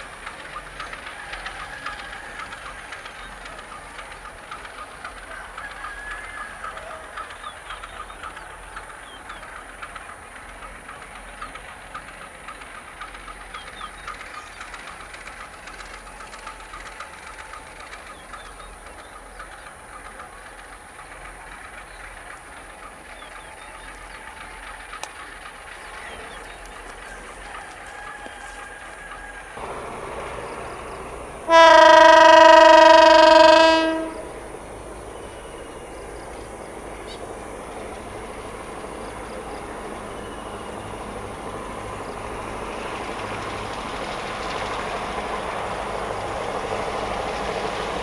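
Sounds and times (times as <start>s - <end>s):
distant locomotive running: 0.0s - 48.0s
rail clatter: 0.0s - 48.0s
wheels ticking: 0.0s - 48.0s.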